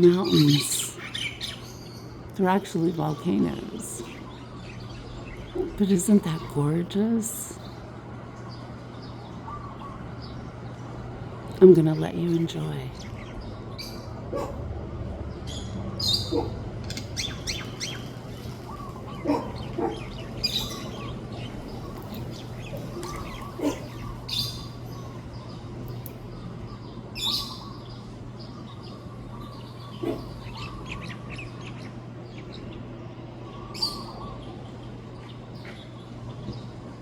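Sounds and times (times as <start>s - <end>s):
birds chirping and calling: 0.0s - 37.0s
steady low hum: 0.0s - 37.0s.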